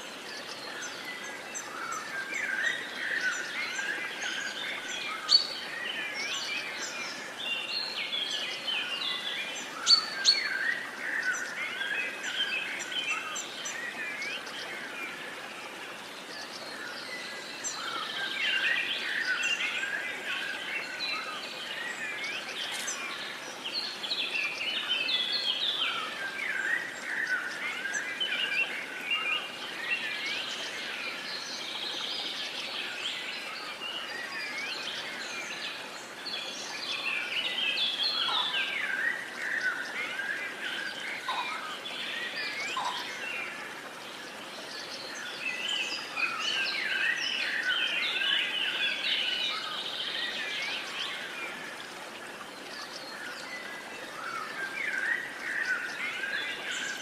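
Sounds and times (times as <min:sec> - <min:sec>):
faint outdoor hiss: 0:00.0 - 0:57.0
songbirds singing and chirping: 0:00.0 - 0:57.0.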